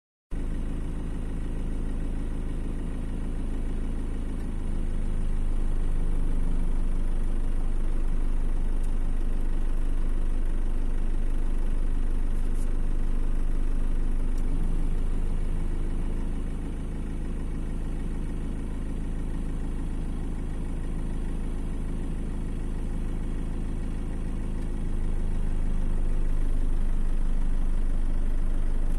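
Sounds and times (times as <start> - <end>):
engine idling hum: 0.3 - 28.9.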